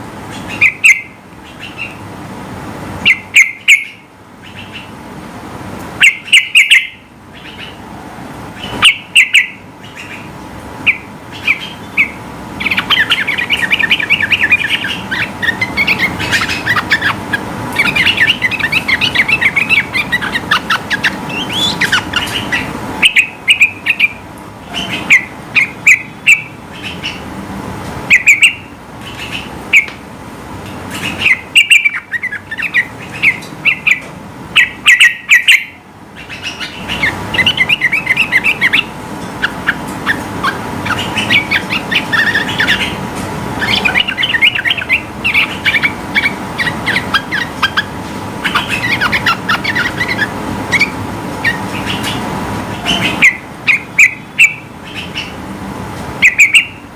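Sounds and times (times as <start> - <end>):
bird chirping and chattering: 0.3 - 2.0, 3.0 - 5.0, 6.0 - 7.8, 8.6 - 27.3, 28.1 - 30.0, 30.7 - 55.4, 56.2 - 56.8.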